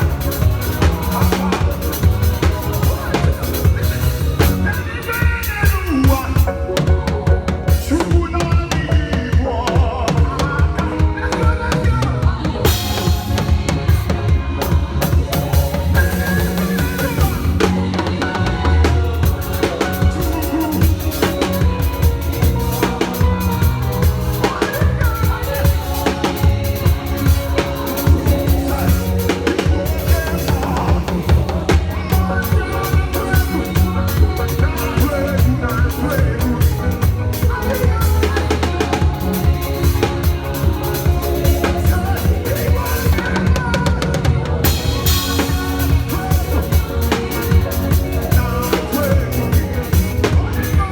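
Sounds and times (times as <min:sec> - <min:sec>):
drum kit busy beat: 0:00.0 - 0:50.9
live praise band music: 0:00.0 - 0:50.9.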